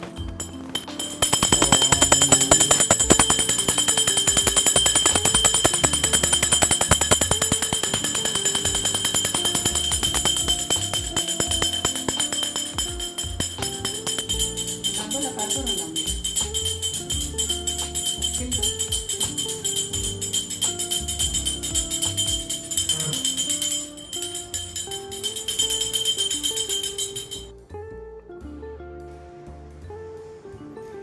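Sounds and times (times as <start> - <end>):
music with stepping melody: 0.0 - 31.0
brass hand bell ringing: 0.3 - 27.5.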